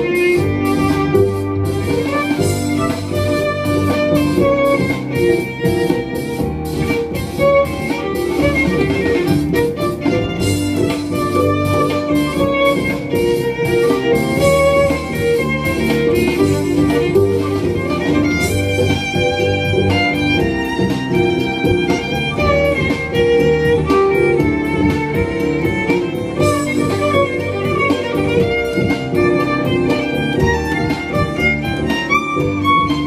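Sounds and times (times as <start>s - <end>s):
bowed violin melody: 0.0s - 33.0s
plucked double bass: 0.0s - 33.0s.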